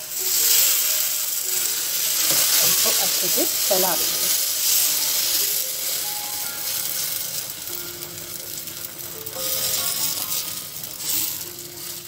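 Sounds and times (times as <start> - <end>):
batter sizzling on hot pan: 0.0 - 12.0
soft background music: 0.0 - 12.0.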